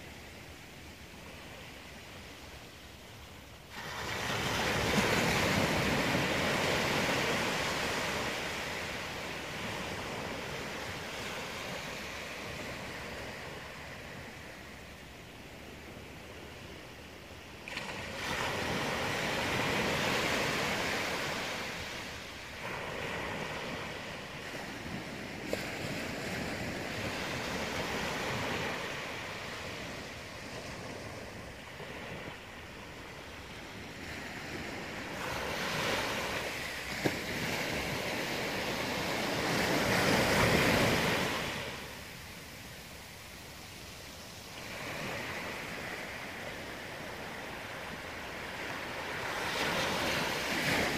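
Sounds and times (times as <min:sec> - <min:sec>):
small waves washing on beach: 0:00.0 - 0:50.9.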